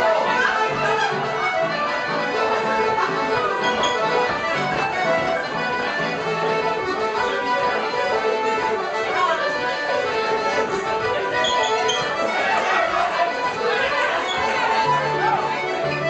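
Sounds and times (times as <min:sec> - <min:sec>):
accordion dance music: 0:00.0 - 0:16.0.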